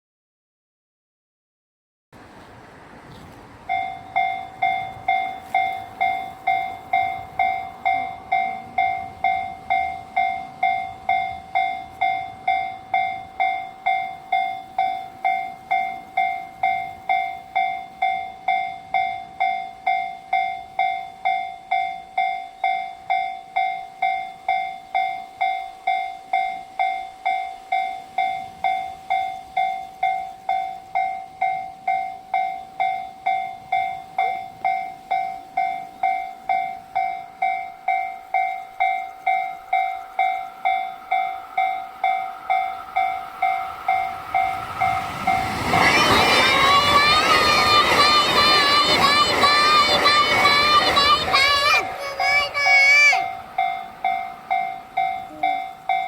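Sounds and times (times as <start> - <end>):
level-crossing warning bell: 3.6 - 56.0.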